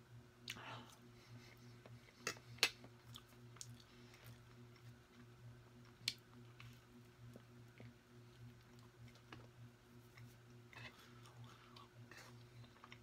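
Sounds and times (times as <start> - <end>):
soft chewing: 0.4 - 13.0.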